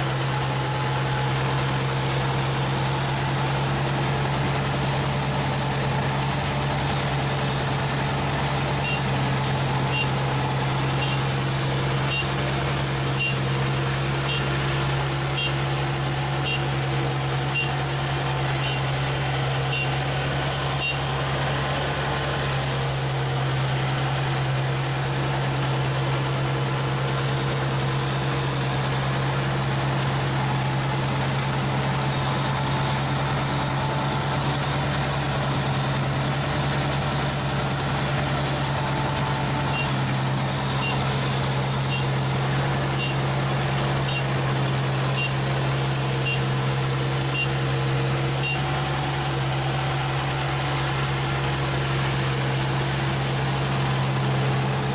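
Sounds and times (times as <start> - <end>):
combine harvester engine hum: 0.0 - 54.9.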